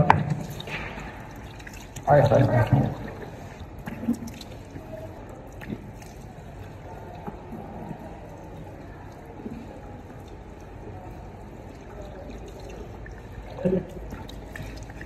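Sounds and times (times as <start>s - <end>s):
tap water splashing: 0.0s - 15.0s.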